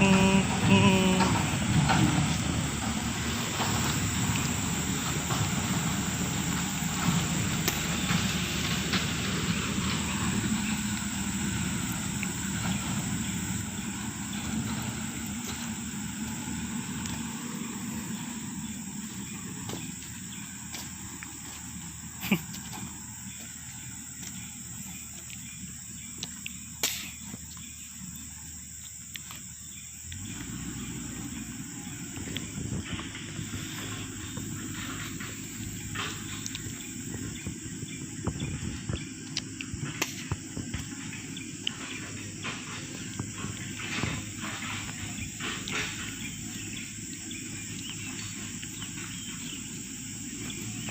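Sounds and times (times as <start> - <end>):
high-pitched insect drone: 0.0 - 50.9
low engine rumble: 0.0 - 50.9.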